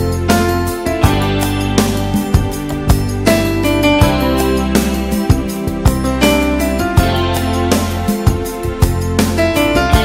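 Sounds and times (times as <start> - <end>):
piano: 0.0 - 10.0
steady drum beat: 0.0 - 10.0
sustained bass line: 0.0 - 10.0.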